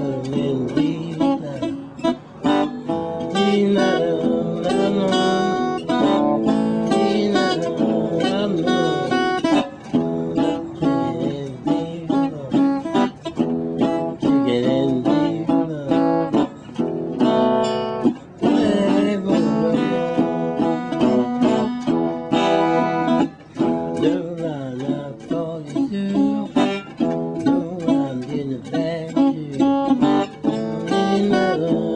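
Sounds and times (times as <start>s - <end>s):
resonator guitar blues: 0.0s - 31.9s.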